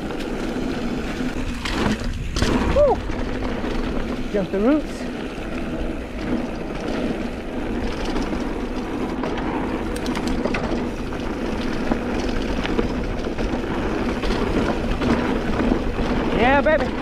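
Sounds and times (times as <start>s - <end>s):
bike chain and frame rattling: 0.0s - 17.0s
bike tyres rushing on dirt: 0.0s - 17.0s
sharp clicks and knocks over bumps: 0.0s - 17.0s.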